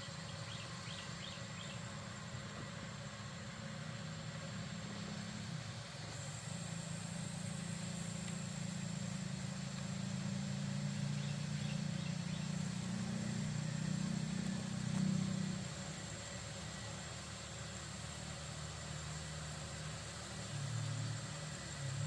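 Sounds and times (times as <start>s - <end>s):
motor engine running: 0.0s - 22.0s.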